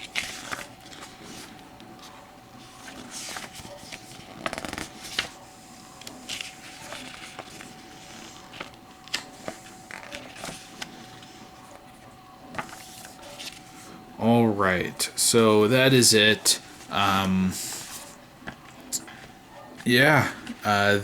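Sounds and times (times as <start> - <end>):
paper and cardboard rustling: 0.0 - 14.0, 17.6 - 20.6.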